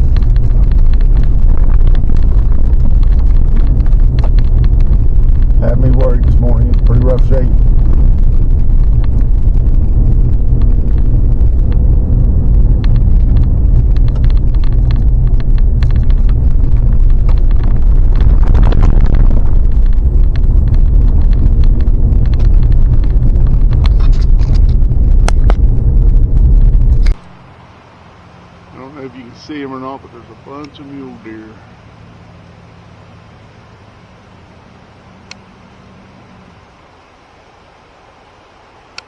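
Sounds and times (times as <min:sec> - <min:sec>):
truck engine and road rumble: 0:00.0 - 0:39.0.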